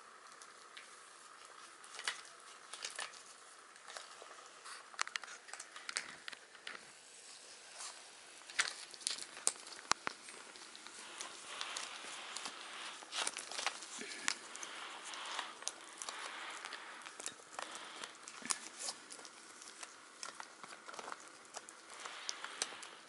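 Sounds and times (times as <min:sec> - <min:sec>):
puppies chewing paper card: 0:00.0 - 0:23.0.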